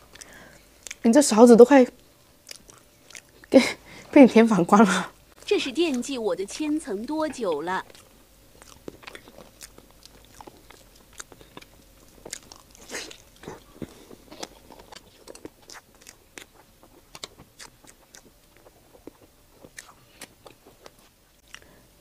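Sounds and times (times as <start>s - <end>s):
wet chewing and mouth clicks: 0.1s - 1.2s, 2.3s - 3.6s, 5.4s - 21.8s.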